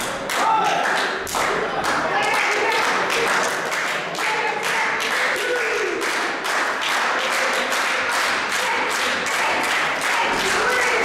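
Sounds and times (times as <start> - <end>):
crowd clapping: 0.0 - 11.0
hubbub of voices: 0.0 - 11.0.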